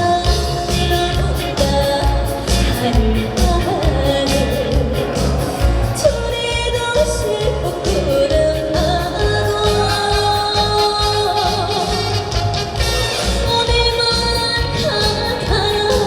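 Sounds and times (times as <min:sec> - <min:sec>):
steady bass beat: 0:00.0 - 0:16.0.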